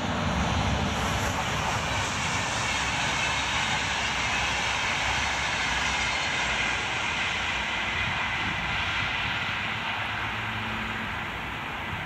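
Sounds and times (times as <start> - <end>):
train passing at speed: 0.0 - 12.0.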